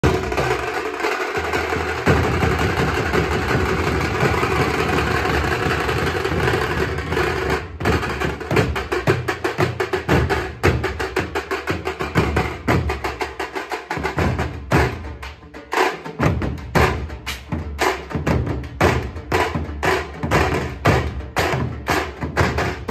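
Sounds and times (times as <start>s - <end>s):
drum ensemble playing loudly: 0.0s - 22.9s.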